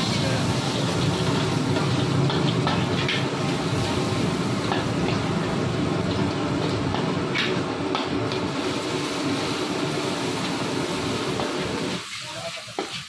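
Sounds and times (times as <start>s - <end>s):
gas burner rushing: 0.0s - 13.0s.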